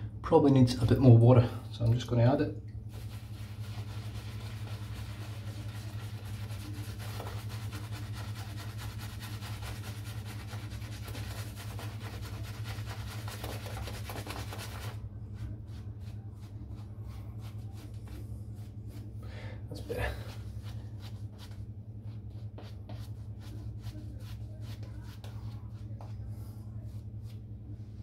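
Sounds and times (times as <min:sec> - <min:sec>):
steady low hum: 0:00.0 - 0:28.0
shaving brush swishing lather: 0:02.9 - 0:19.2, 0:20.1 - 0:27.4.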